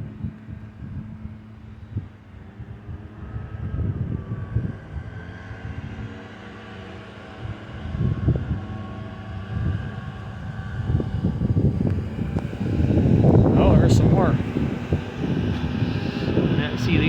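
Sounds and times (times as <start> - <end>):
wind buffeting microphone: 0.0 - 17.0
distant machinery drone: 0.5 - 17.0.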